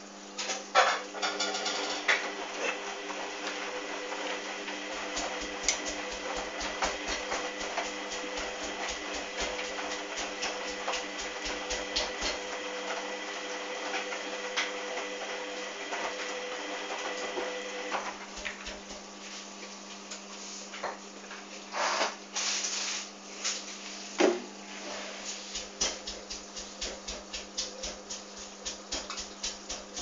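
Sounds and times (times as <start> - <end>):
washing machine motor whine: 0.0 - 30.0.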